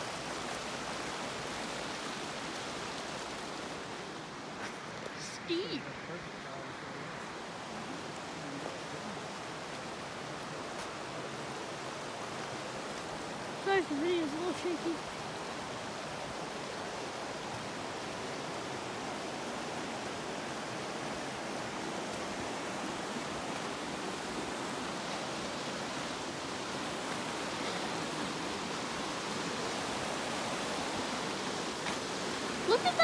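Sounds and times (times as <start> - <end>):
small waterfall rushing: 0.0 - 33.0.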